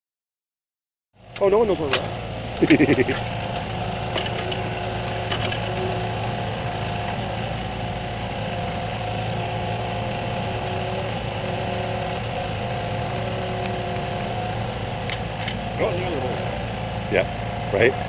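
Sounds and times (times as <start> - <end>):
engine humming steadily: 1.2 - 18.0.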